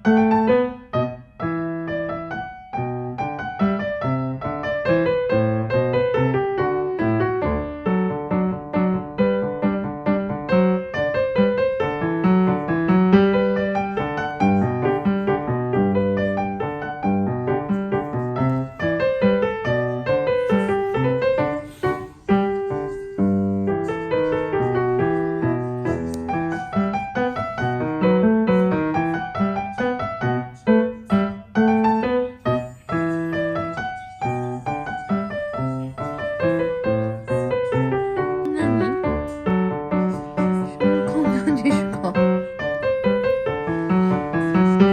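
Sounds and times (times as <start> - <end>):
piano melody: 0.0 - 44.9.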